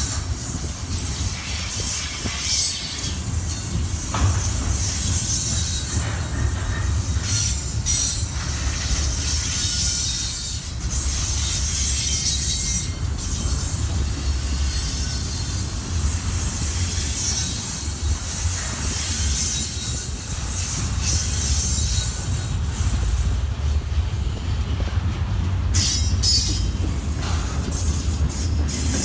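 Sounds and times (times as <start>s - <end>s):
freight train rumbling on rails: 0.0s - 29.0s
train wheel squeal: 0.0s - 29.0s.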